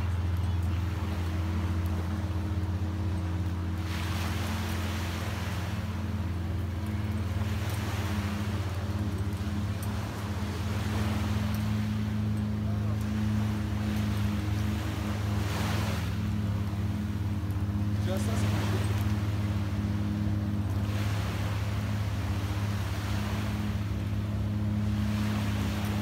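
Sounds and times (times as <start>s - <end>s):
engine humming steadily: 0.0s - 26.0s.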